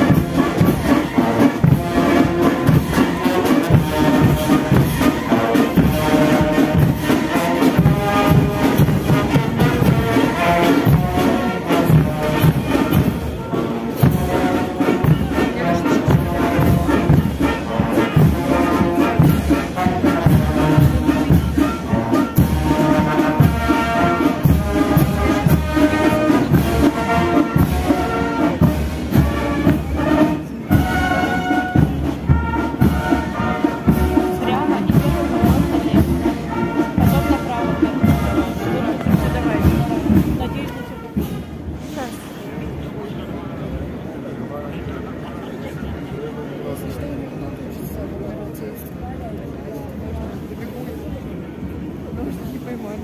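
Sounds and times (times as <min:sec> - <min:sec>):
military brass band playing: 0:00.0 - 0:42.9.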